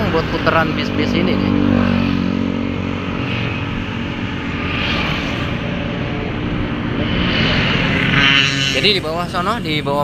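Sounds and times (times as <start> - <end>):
motorcycles driving past: 0.0 - 10.0.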